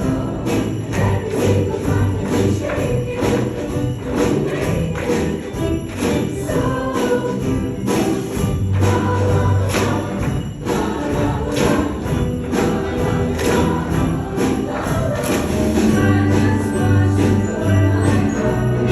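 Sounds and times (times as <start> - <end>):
christmas music: 0.0 - 18.9
sleigh bells jingling: 0.0 - 18.9.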